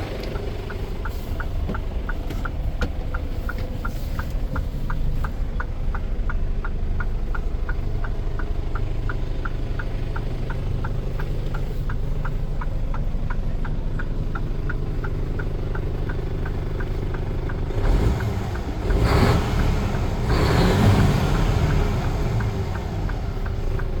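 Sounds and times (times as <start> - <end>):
diesel truck engine idling: 0.0 - 24.0
light regular ticking: 0.0 - 24.0.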